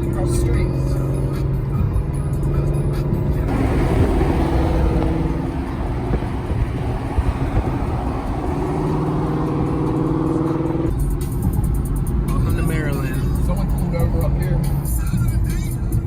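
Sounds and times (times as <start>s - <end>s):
car engine running: 0.0s - 15.9s
road and wind noise: 0.0s - 16.0s.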